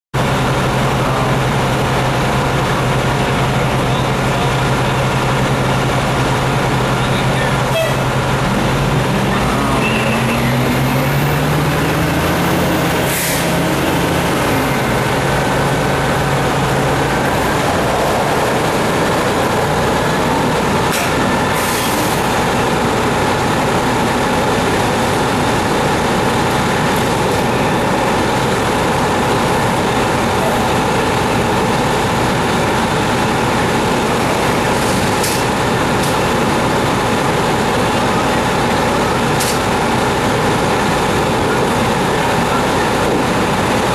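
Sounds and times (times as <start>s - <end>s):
heavy diesel engines running: 0.2s - 43.9s
steady engine whine: 0.2s - 43.9s.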